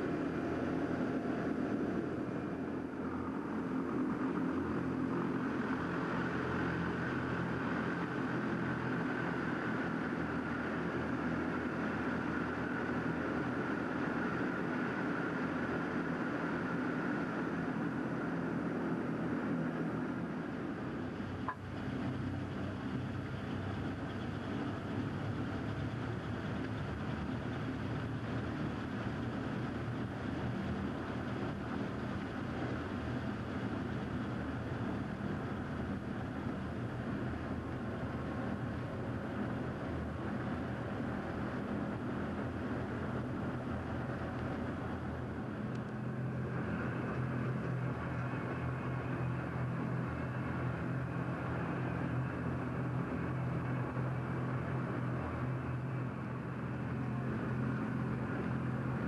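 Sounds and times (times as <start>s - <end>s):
hovercraft engines droning: 0.0s - 59.0s.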